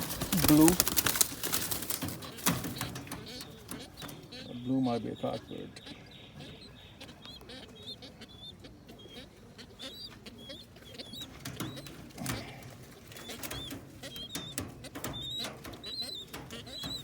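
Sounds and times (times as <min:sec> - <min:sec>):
young pigeons peeping: 0:00.0 - 0:17.0.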